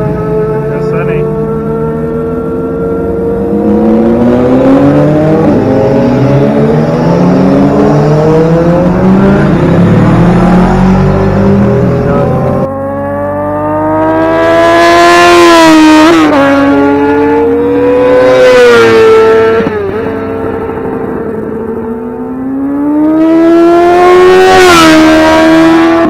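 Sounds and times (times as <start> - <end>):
motorcycle passing by: 0.0 - 26.0
racing motorcycle engines revving: 0.0 - 26.0.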